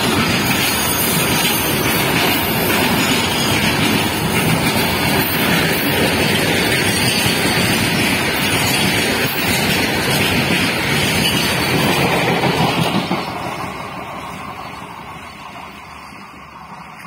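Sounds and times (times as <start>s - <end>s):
freight wagons rattling past: 0.0s - 13.8s
train wheels on rails: 0.0s - 17.0s.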